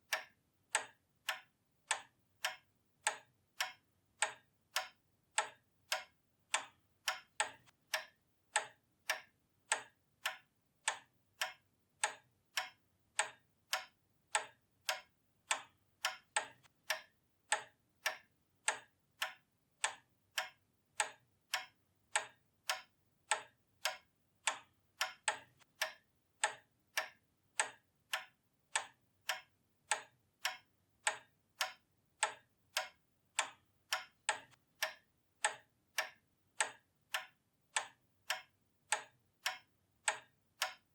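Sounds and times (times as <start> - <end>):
pendulum clock ticking: 0.0 - 40.9.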